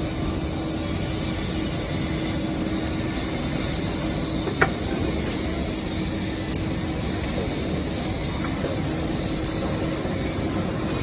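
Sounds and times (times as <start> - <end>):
hydraulic hiss: 0.0 - 11.0.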